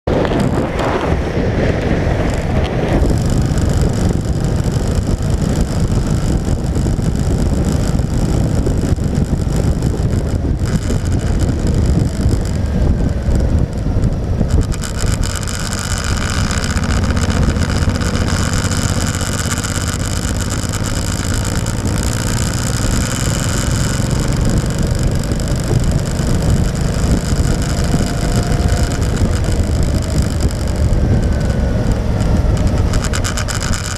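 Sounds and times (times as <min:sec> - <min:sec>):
motorcycle engine: 0:00.0 - 0:33.9
wind rumble on microphone: 0:00.0 - 0:33.9.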